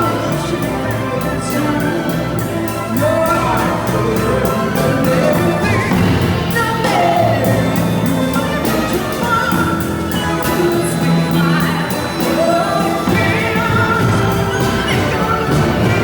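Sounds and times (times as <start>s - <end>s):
jazz orchestra playing slow blues: 0.0s - 16.0s.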